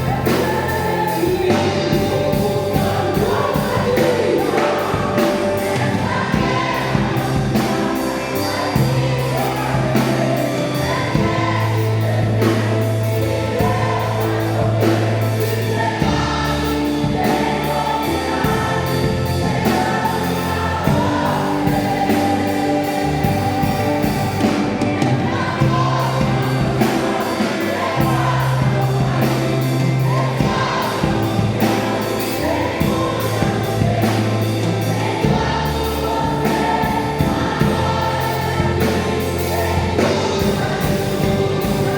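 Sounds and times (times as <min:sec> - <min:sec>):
band with steady beat: 0:00.0 - 0:41.9
bass line: 0:00.0 - 0:41.9
choir singing gospel: 0:00.0 - 0:41.9.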